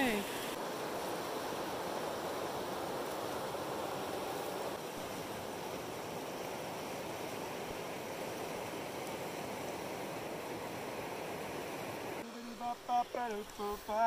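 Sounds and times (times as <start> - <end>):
river rushing over rapids: 0.0 - 14.0.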